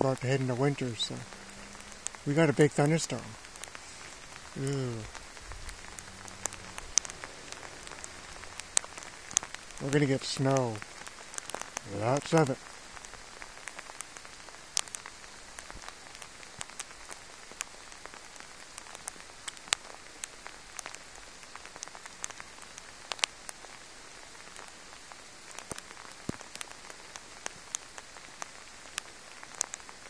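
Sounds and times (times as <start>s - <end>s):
faint rain hiss: 0.0s - 30.0s
raindrops tapping: 0.0s - 30.0s.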